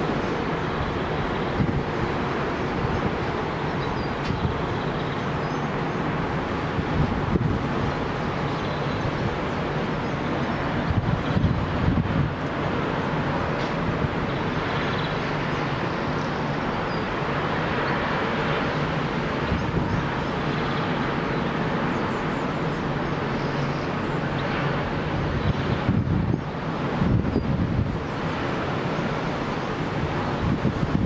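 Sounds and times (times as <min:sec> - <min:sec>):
storm wind over rough sea: 0:00.0 - 0:31.0
wind buffeting microphone: 0:00.0 - 0:31.0.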